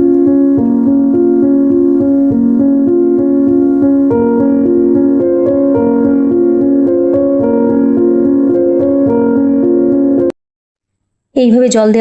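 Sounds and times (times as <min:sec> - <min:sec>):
light piano tune: 0:00.0 - 0:10.4.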